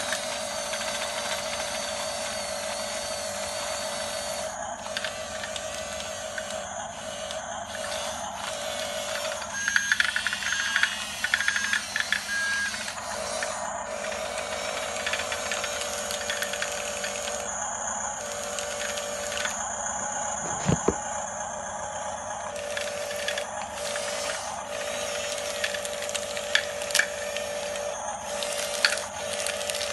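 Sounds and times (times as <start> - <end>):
toy motors whirring and rattling: 0.0 - 19.7, 20.4 - 21.0, 22.3 - 29.9.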